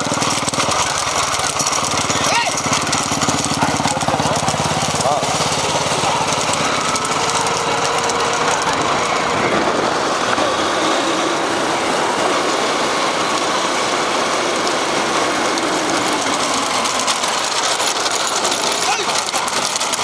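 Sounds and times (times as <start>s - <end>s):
road noise: 0.0s - 20.0s
vehicle engines running: 0.0s - 20.0s.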